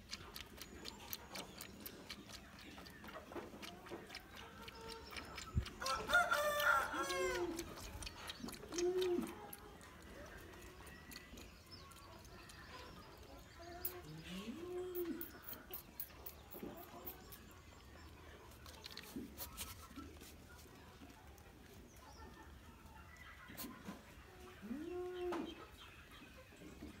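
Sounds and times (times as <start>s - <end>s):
faint farm animal calls: 0.0s - 27.0s.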